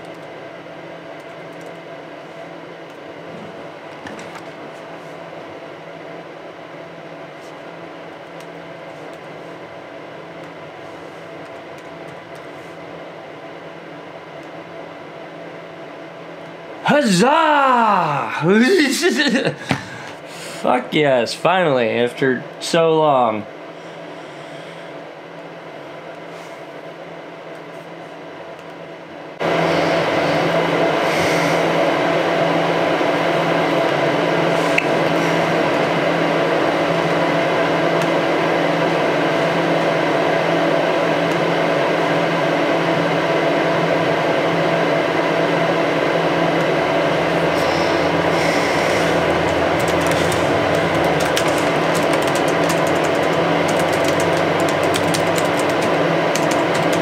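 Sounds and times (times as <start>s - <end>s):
machine-like hum: 0.0s - 57.0s.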